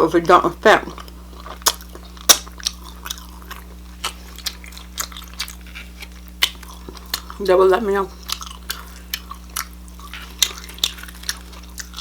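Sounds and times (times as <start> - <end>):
person chewing food: 0.9 - 7.5, 8.1 - 12.0.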